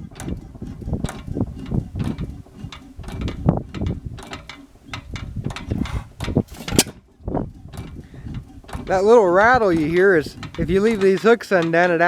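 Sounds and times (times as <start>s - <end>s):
hit-and-miss engine running: 0.0s - 12.0s
valve gear clicking and knocking: 0.0s - 12.0s.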